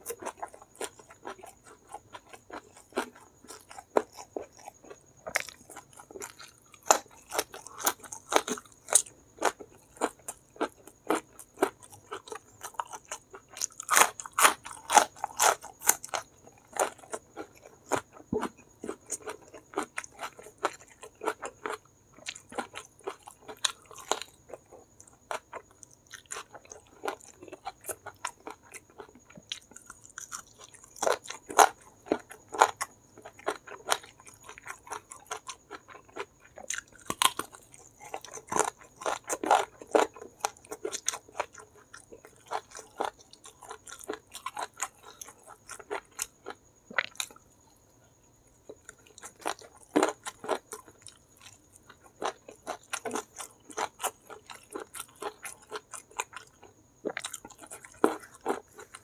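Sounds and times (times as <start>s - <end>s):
chewing crunchy fried chicken: 0.0s - 59.0s.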